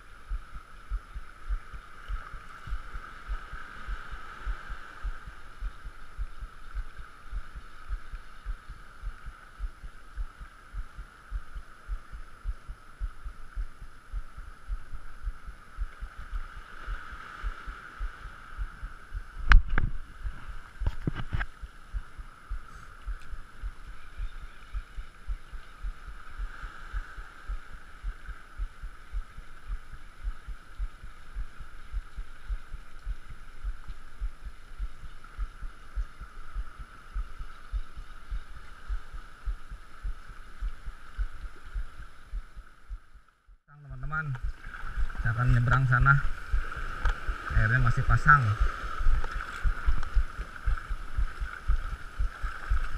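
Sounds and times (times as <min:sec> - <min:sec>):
muffled low thumps: 0:00.2 - 0:52.9.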